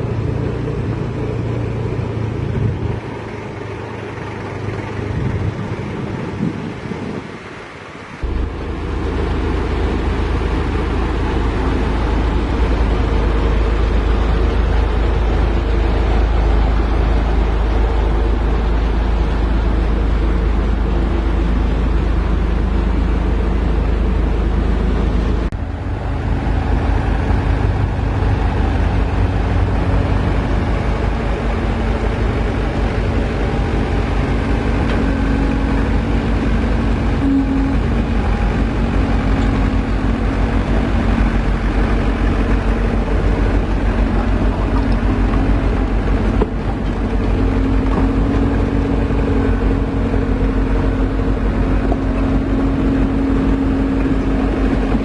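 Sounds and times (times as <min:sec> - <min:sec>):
pulsing low throb: 0:00.0 - 0:07.2, 0:08.2 - 0:55.0
diesel engine rumbling: 0:00.0 - 0:55.0
steady hum: 0:00.0 - 0:55.0.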